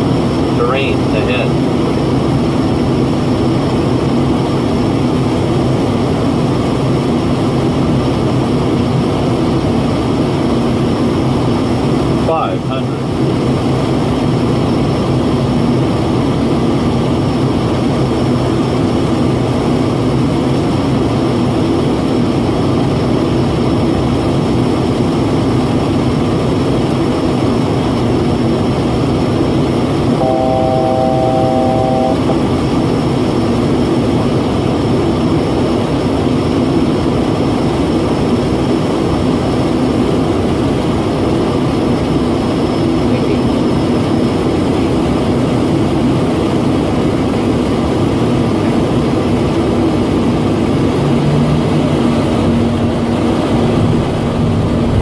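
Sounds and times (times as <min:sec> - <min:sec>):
airliner engine noise in cabin: 0:00.0 - 0:55.0.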